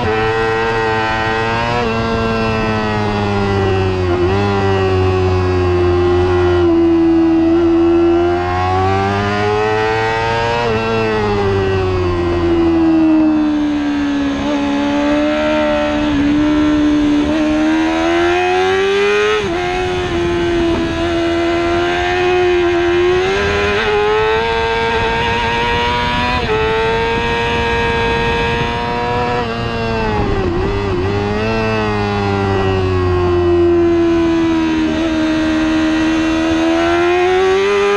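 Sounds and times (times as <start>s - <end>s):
racing motorcycle engine revving: 0.0s - 37.9s
wind and road noise: 0.0s - 37.9s.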